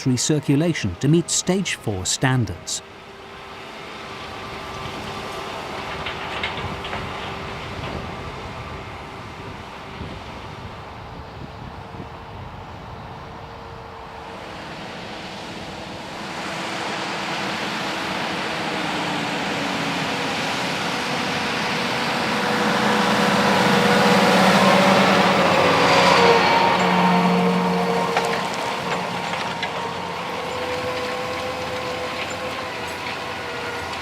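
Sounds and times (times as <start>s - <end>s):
tractor engine working: 0.0s - 34.0s.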